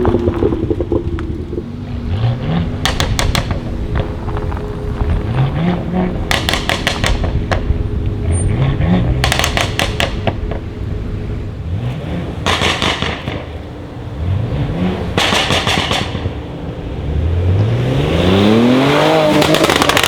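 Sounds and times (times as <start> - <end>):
car engine revving: 0.0 - 20.0
exhaust crackles and pops: 0.0 - 20.0.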